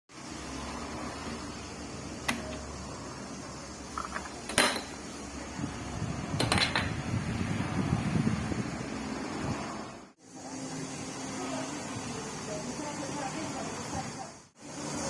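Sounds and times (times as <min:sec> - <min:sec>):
stand fan humming: 0:00.2 - 0:15.0.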